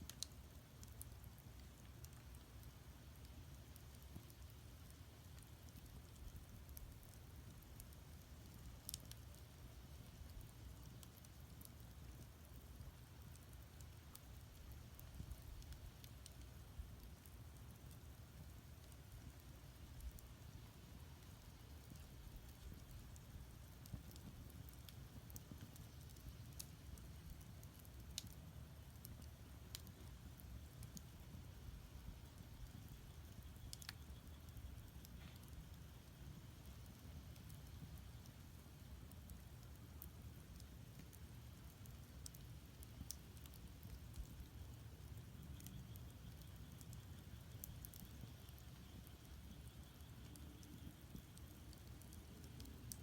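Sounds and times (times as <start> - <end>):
firewood crackling and popping: 0.0 - 53.0.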